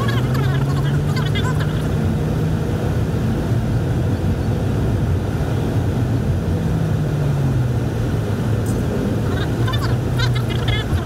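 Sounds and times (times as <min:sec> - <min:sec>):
road noise: 0:00.0 - 0:11.0
van diesel engine running: 0:00.0 - 0:11.0.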